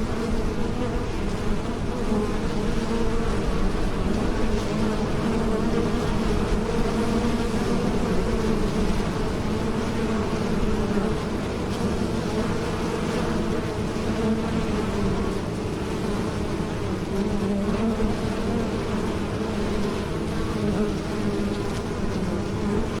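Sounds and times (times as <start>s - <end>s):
bees buzzing in flight: 0.0s - 23.0s.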